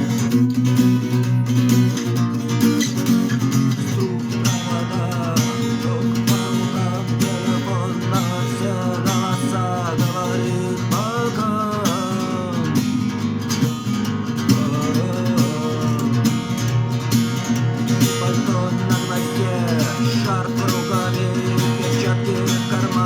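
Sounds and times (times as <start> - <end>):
person singing: 0.0 - 2.2, 2.8 - 23.0
guitar: 0.0 - 23.0.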